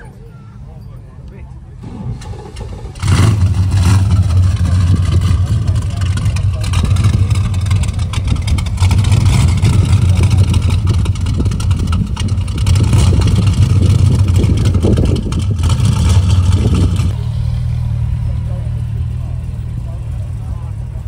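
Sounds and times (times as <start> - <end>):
car engine idling: 1.8 - 21.0.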